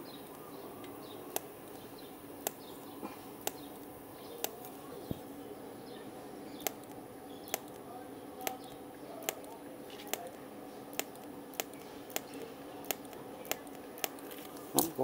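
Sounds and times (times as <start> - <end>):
welding arc hiss and hum: 0.0 - 5.4, 6.6 - 15.0
sharp clicks: 0.1 - 4.8, 6.6 - 15.0.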